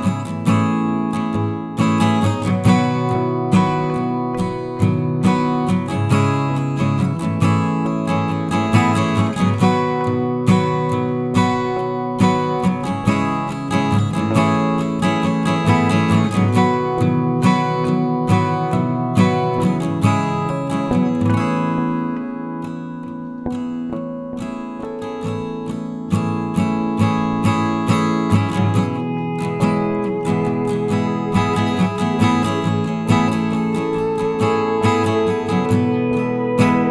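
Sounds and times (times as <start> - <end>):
acoustic guitar music: 0.0 - 36.9.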